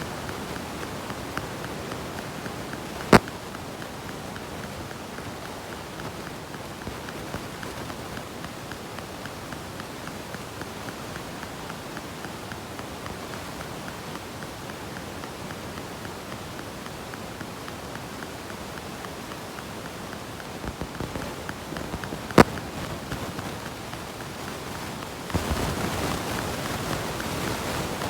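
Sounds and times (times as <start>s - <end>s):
sharp click: 0.0s - 27.6s
wall clock ticking: 0.0s - 28.0s.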